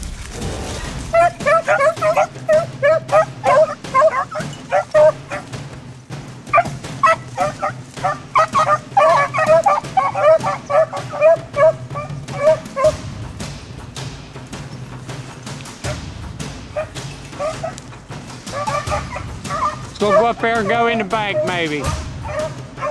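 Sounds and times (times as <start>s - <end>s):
dogs baying: 0.8s - 5.8s, 6.5s - 13.0s, 15.1s - 22.9s.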